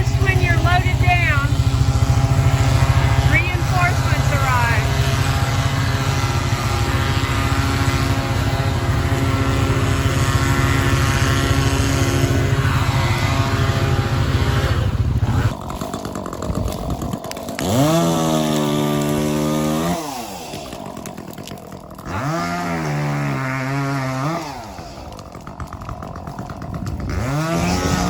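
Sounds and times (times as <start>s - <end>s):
chainsaw revving: 0.0s - 28.0s
engine running steadily: 0.0s - 28.0s.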